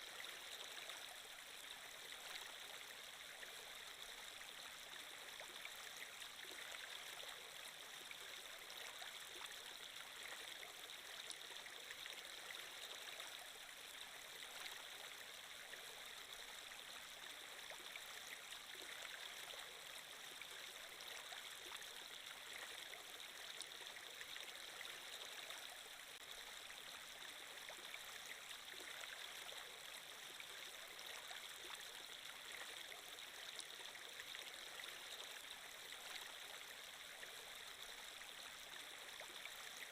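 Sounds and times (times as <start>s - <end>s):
faint stream running water: 0.0s - 39.9s.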